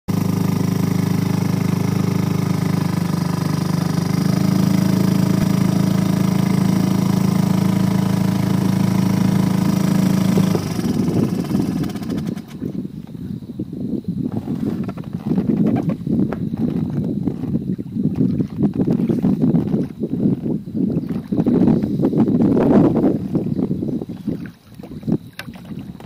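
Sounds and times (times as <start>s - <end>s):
small outboard motor running: 0.1s - 13.2s, 14.3s - 26.0s.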